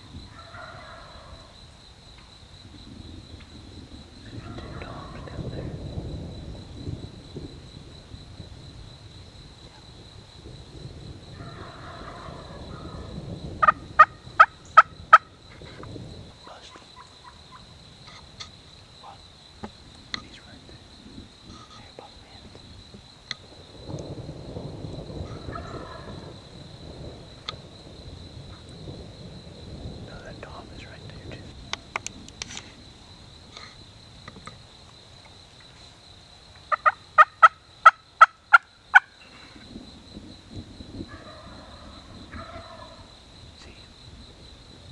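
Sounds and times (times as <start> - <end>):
high insect trill: 0.0 - 44.9.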